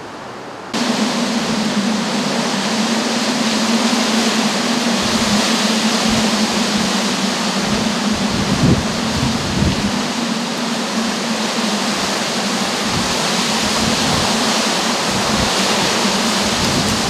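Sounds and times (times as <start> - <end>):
stormy weather rushing: 0.0 - 17.0
low hum: 0.8 - 17.0.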